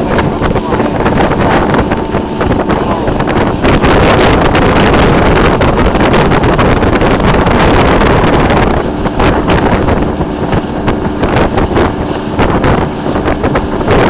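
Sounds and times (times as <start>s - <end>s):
boat motor: 0.0s - 14.0s
rushing water: 0.0s - 14.0s
wind buffeting microphone: 0.0s - 14.0s.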